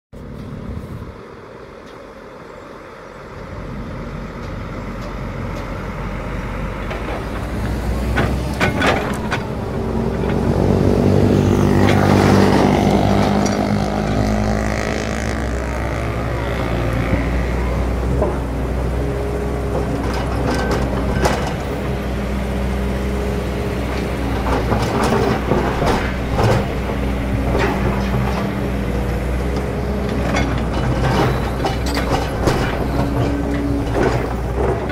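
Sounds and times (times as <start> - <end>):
dump truck driving past: 0.2 - 34.9
excavator diesel engine running: 0.2 - 34.9.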